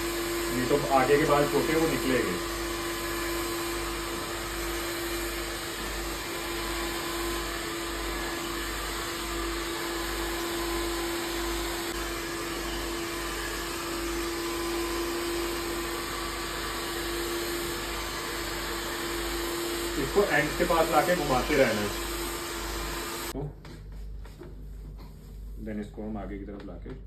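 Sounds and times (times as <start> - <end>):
hair dryer running: 0.0 - 23.4.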